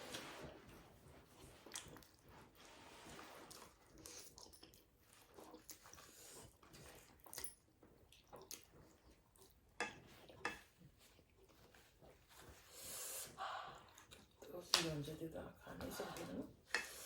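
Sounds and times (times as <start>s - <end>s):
chewing and wet mouth noises: 0.4s - 14.7s.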